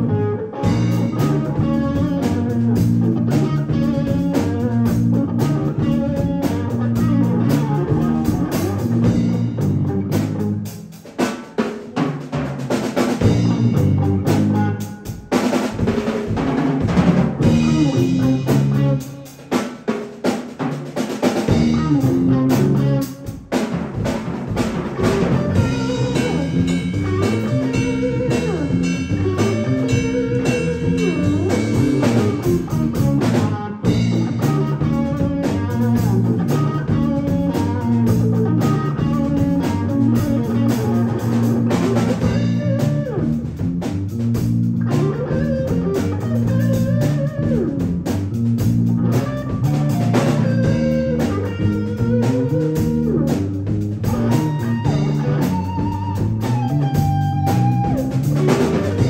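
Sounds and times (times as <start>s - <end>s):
band playing funk groove: 0.0s - 59.0s
band stabs and drum hits: 0.6s - 59.0s.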